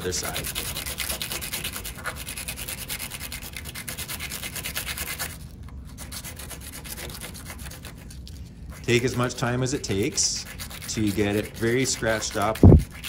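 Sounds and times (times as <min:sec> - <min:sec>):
metal tube rasping on sandpaper: 0:00.0 - 0:05.4, 0:06.0 - 0:08.0, 0:08.7 - 0:13.0.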